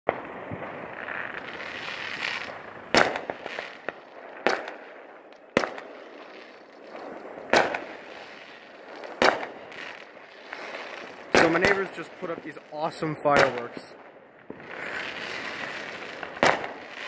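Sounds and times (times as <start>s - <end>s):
firework bangs: 0.1s - 17.0s
firework crackling and hiss: 0.1s - 17.0s.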